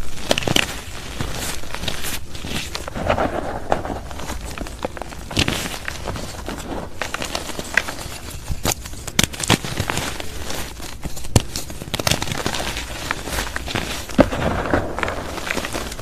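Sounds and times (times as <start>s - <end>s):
hands crushing dried chalk: 0.0s - 16.0s.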